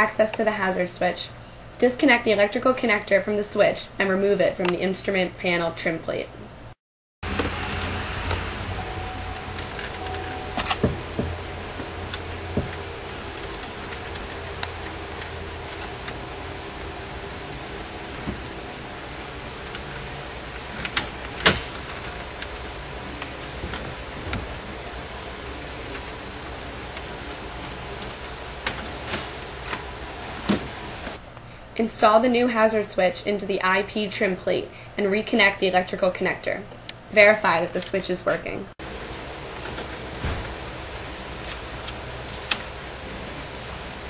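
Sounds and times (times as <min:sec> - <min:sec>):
steady low hum: 0:00.0 - 0:31.8, 0:38.7 - 0:44.0.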